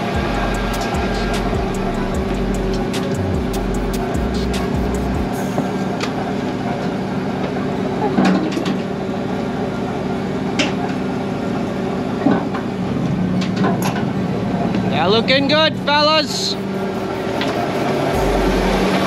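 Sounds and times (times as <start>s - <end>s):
boat engine drone: 0.0s - 8.0s, 9.0s - 19.0s.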